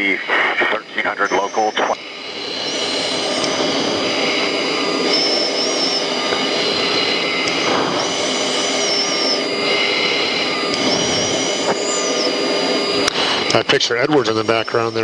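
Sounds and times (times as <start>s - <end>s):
high wavering whine: 0.0s - 15.0s
jet engine and airflow noise: 0.0s - 15.0s.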